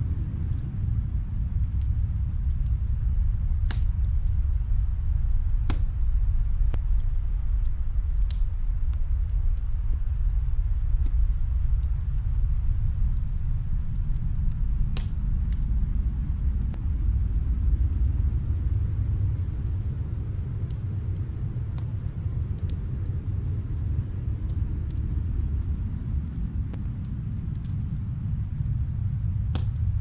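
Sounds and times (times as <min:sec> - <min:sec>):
deep rumble: 0:00.0 - 0:30.0
log fire crackling: 0:00.0 - 0:30.0.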